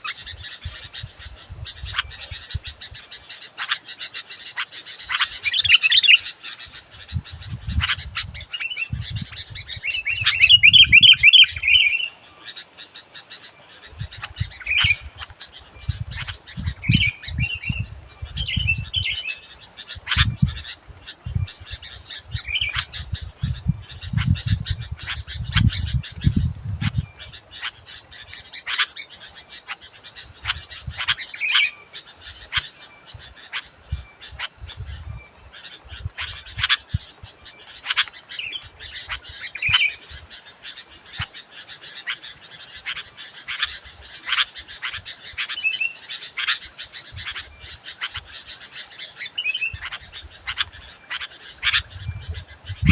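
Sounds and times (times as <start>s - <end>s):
bulbul singing chattering phrases: 0.0s - 52.9s.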